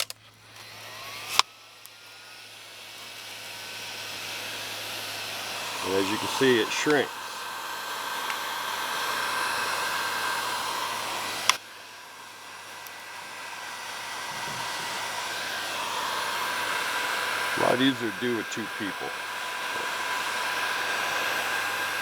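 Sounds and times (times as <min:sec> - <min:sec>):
heat gun blowing: 0:00.0 - 0:22.0.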